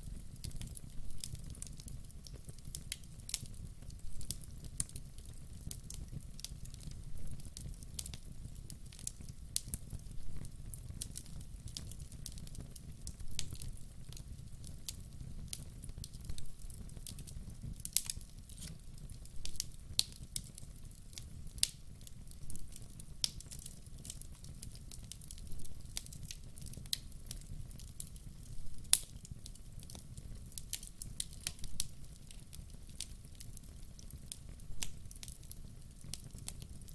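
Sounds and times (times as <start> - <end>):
burning logs crackling: 0.0 - 36.9.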